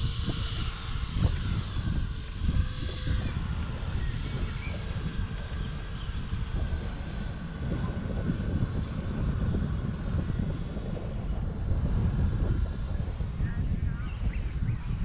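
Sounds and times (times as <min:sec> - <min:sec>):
electric jet fan whine: 0:00.0 - 0:15.0
wind buffeting microphone: 0:00.0 - 0:15.0.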